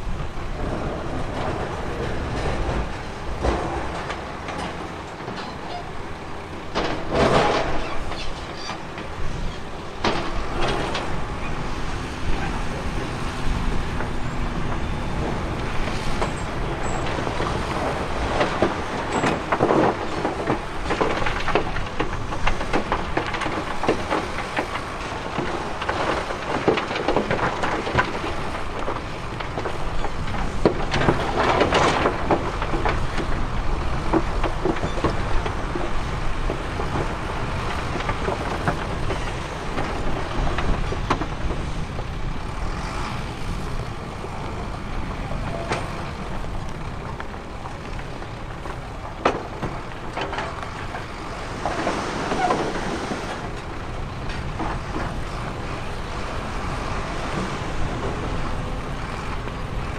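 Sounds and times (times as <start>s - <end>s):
heavy engine under load: 0.0s - 59.9s
machinery clanking and scraping: 0.0s - 59.9s.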